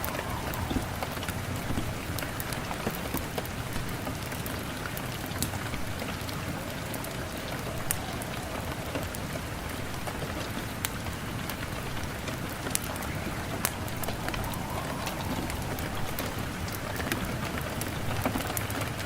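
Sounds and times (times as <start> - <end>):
steady rain: 0.0 - 19.0
wood fire crackling: 0.0 - 19.0.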